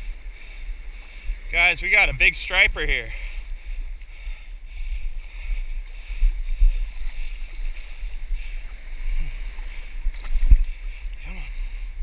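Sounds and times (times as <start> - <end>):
surf water lapping: 0.0 - 12.0
wind buffeting microphone: 0.0 - 12.0.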